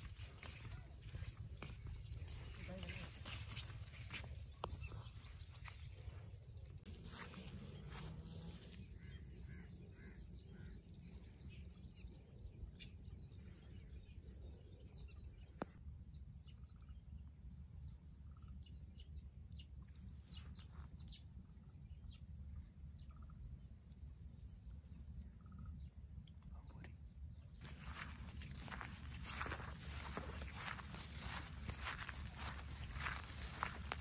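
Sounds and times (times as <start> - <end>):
small birds chirping: 0.0 - 15.8, 18.2 - 34.0.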